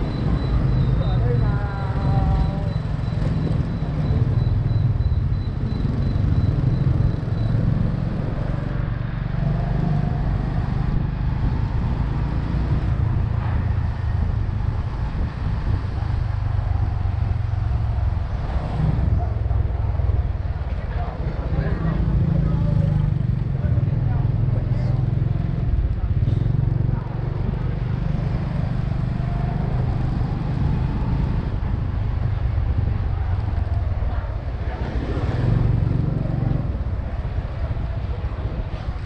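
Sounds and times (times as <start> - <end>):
motorbike engine rumble: 0.0 - 39.0
motorbike traffic: 0.0 - 39.0.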